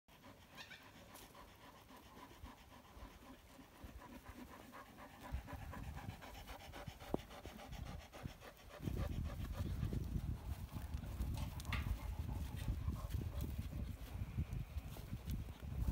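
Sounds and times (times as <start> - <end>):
rams panting rapidly: 0.1 - 14.2.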